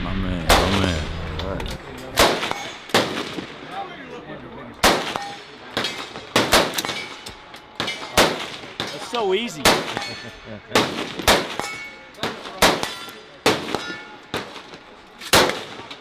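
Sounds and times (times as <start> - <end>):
rifle shots: 0.4 - 1.1, 2.2 - 3.7, 4.8 - 7.2, 7.8 - 16.0.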